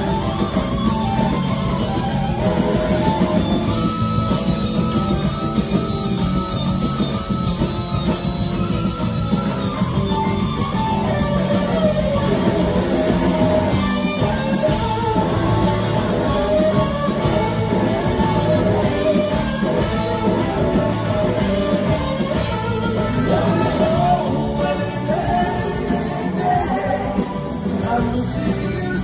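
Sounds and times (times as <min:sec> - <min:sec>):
live rock band playing: 0:00.0 - 0:29.0
sliding electric guitar lead: 0:00.0 - 0:29.0.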